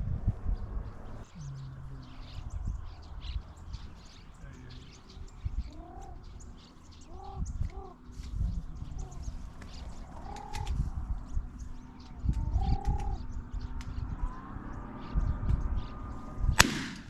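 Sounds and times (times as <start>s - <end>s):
small birds chirping: 0.0s - 17.0s
doves cooing: 0.8s - 16.7s.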